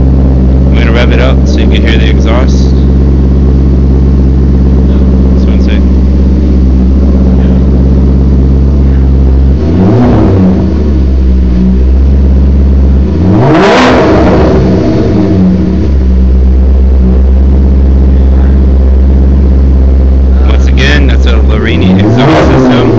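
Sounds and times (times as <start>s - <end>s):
car engine idling and revving: 0.0s - 22.9s.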